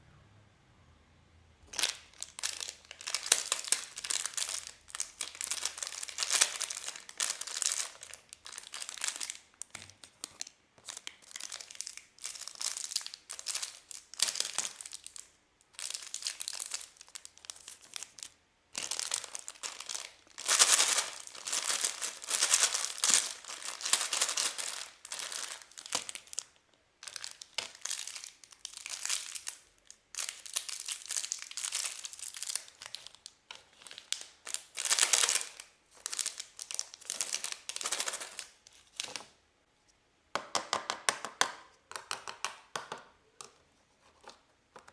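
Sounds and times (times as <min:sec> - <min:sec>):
wrappers crinkling and tearing: 0:01.7 - 0:39.3.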